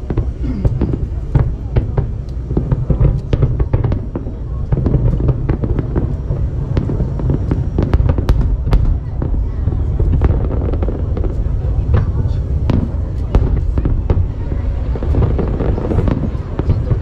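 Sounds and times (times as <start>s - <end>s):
fireworks popping and crackling: 0.0s - 17.0s
low rumble of bursting shells: 0.0s - 17.0s.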